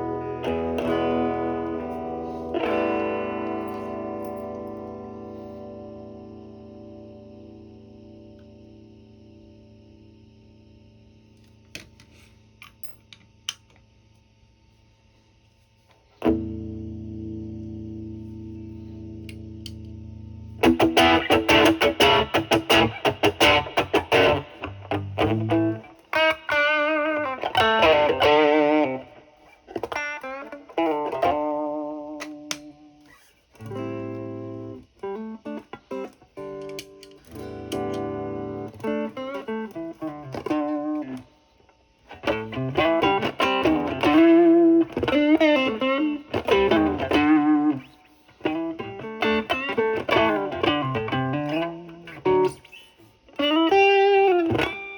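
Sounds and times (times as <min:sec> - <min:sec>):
overdriven electric guitar: 0:00.0 - 0:12.0, 0:16.0 - 0:54.9.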